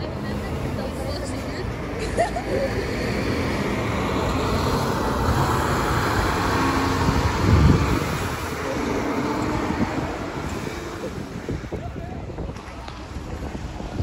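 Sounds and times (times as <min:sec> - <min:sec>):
coach diesel engine: 0:00.0 - 0:14.0
road noise: 0:00.0 - 0:14.0
vehicle passing: 0:00.0 - 0:14.0.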